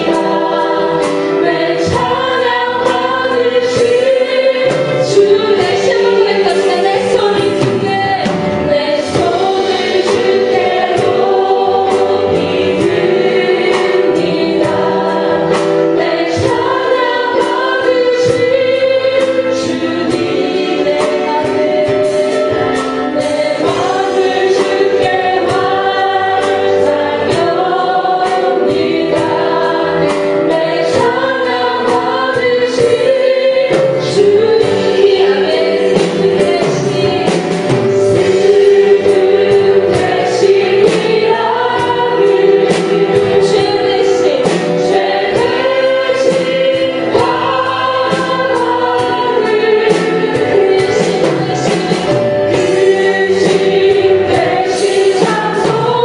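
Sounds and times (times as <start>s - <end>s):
group of singers singing: 0.0s - 56.0s
praise band with drums: 0.0s - 56.0s.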